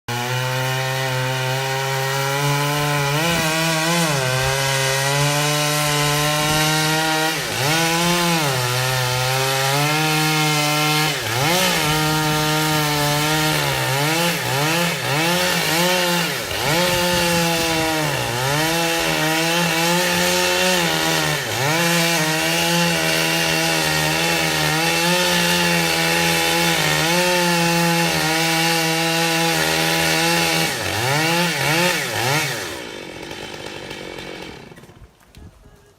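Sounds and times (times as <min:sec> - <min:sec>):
chainsaw cutting wood: 0:00.1 - 0:35.4.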